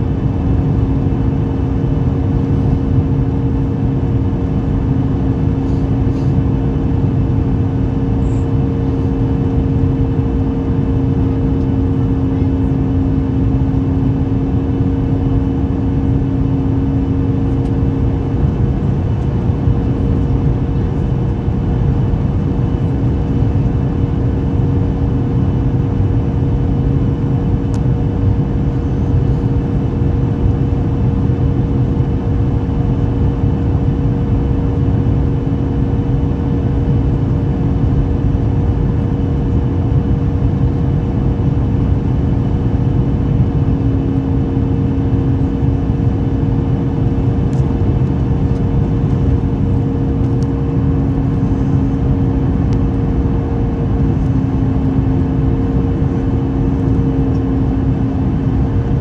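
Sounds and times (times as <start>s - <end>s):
jet engines droning: 0.0s - 59.0s
steady hum tones: 0.0s - 59.0s.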